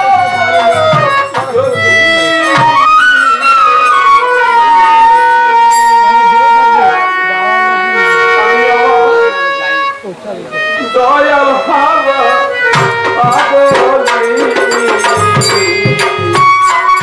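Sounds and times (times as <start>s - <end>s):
lead instrument melody with slides: 0.0s - 17.0s
sustained accompaniment: 0.0s - 17.0s.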